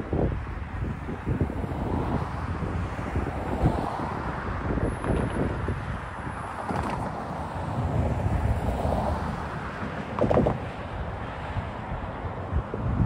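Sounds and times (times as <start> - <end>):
cars driving past: 0.0 - 13.0
wind buffeting microphone: 0.0 - 13.0.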